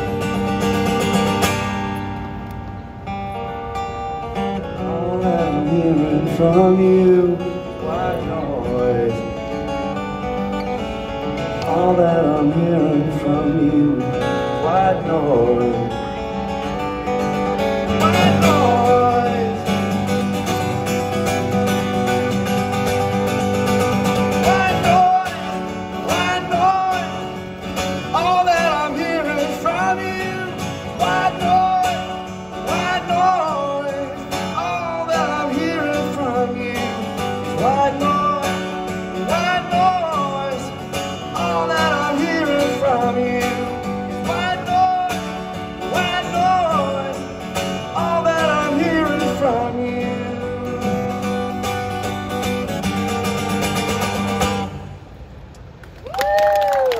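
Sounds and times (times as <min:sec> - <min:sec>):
strummed acoustic guitar: 0:00.0 - 0:55.3.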